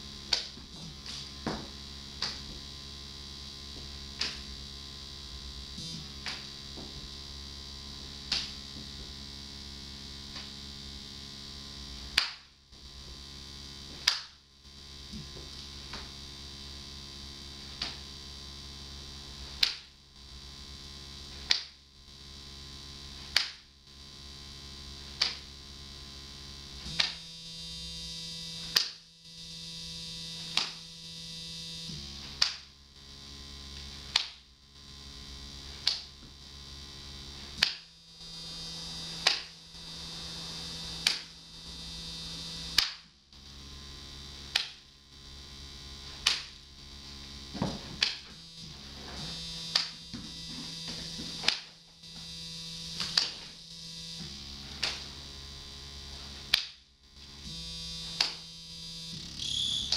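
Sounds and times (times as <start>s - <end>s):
electronic noise drone: 0.0s - 59.9s.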